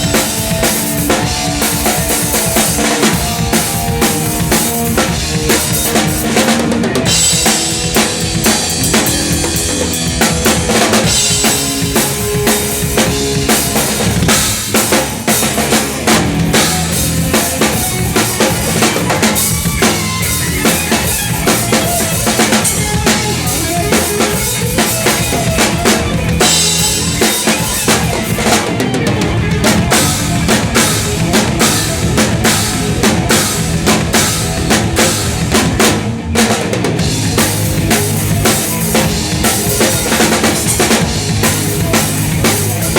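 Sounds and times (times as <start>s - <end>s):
metal band playing: 0.0s - 42.9s
rapid bass drum and snare: 0.0s - 42.9s.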